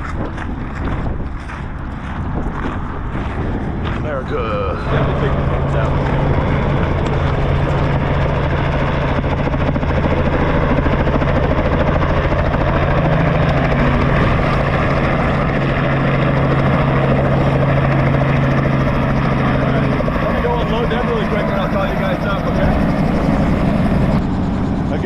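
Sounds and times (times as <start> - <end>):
helicopter engine and rotor drone: 0.0 - 25.0.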